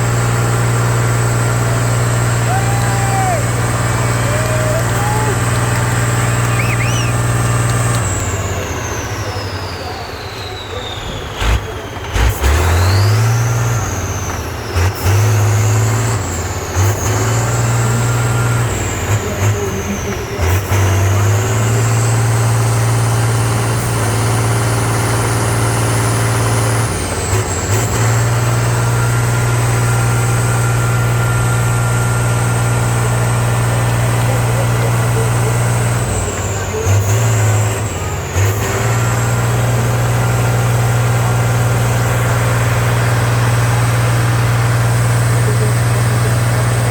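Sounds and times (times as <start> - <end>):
high engine whine: 0.0 - 46.9
truck diesel engine revving: 0.0 - 46.9.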